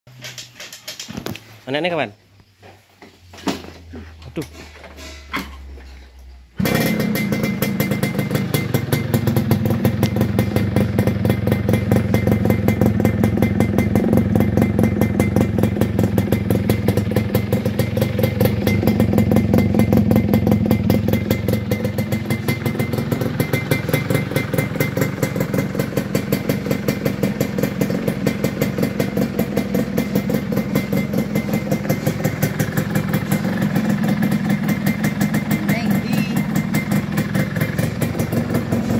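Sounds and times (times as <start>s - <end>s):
two-stroke engine idling: 6.6s - 38.9s.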